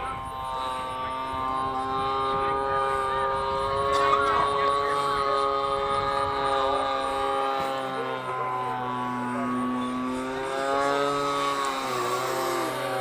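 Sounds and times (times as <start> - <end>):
model airplane motor droning: 0.0 - 13.0.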